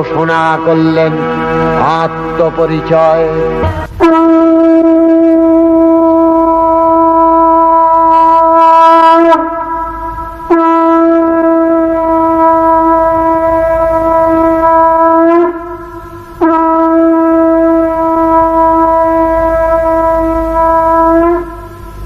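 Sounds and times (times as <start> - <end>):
conch shell blasts: 0.0 - 22.0.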